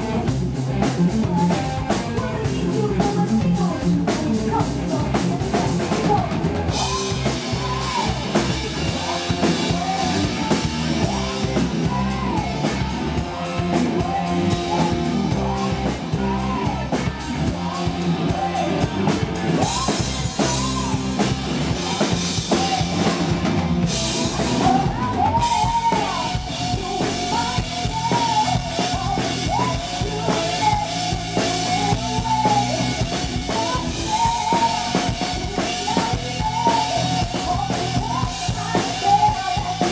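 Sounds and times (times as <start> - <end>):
drum kit with cymbals: 0.0 - 39.9
electric guitar: 0.0 - 39.9
woman singing lead: 0.0 - 39.9.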